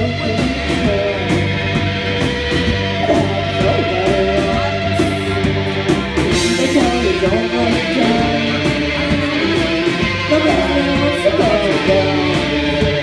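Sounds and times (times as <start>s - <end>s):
electric guitar lines: 0.0s - 13.0s
rock band playing live: 0.0s - 13.0s.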